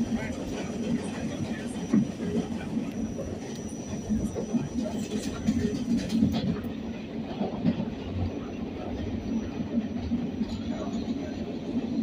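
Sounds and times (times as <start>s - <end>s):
subway wheels rumbling on rails: 0.0s - 12.0s.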